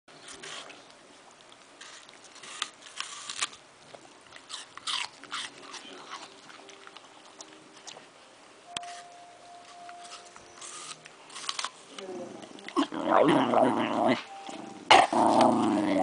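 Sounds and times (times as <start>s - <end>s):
dog crunching an apple: 0.1s - 8.2s, 8.8s - 16.0s.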